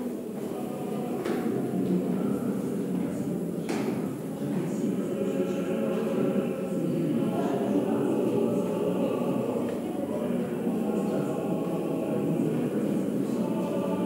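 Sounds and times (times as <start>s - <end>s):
choir singing slow chant: 0.0s - 14.0s.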